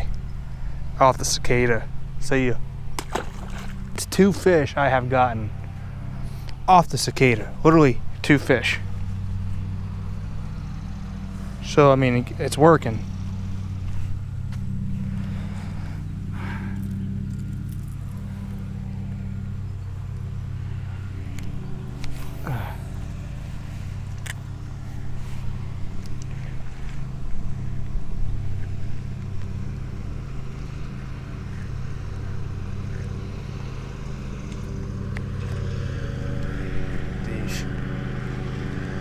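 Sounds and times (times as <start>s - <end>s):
motor engine droning: 0.0s - 39.0s.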